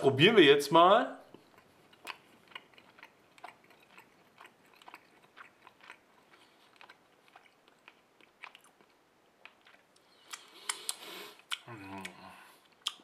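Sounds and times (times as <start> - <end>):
man chewing with mouth clicks: 1.2 - 13.0.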